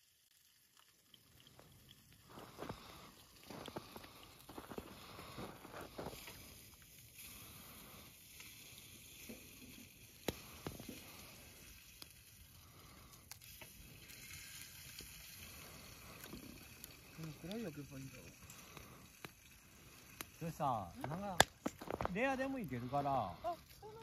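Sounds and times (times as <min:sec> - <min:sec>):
meat sizzling on a grill: 0:00.0 - 0:24.0.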